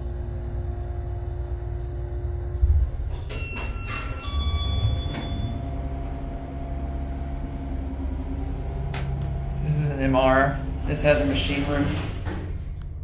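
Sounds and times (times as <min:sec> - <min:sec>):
elevator door sliding with hum: 0:00.0 - 0:13.0
elevator car thud: 0:02.6 - 0:13.0.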